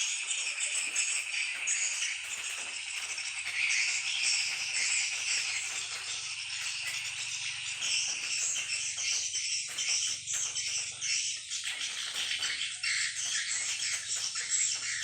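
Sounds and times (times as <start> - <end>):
swiftlets twittering: 0.0 - 15.0.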